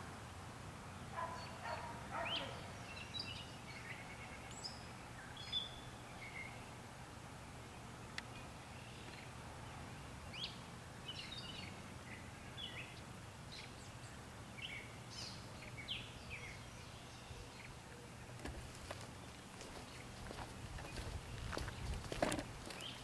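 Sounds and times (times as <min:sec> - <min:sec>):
birds chirping: 0:01.0 - 0:06.7, 0:07.5 - 0:23.0.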